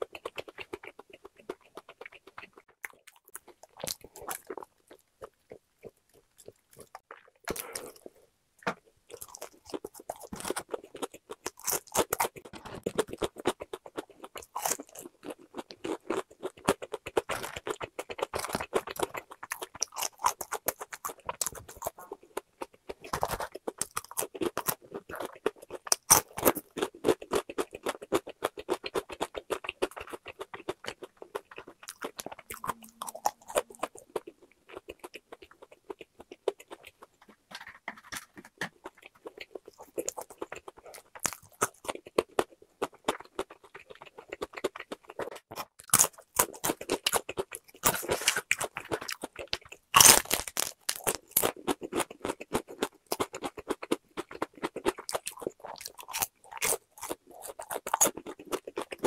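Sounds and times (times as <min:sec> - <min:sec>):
person chewing crunchy fried chicken: 0:00.0 - 0:59.0.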